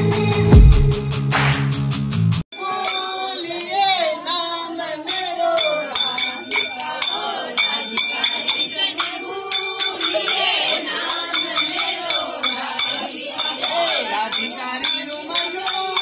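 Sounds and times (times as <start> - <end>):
metallic jingling beat: 2.5 - 16.0
group singing folk song: 2.6 - 16.0.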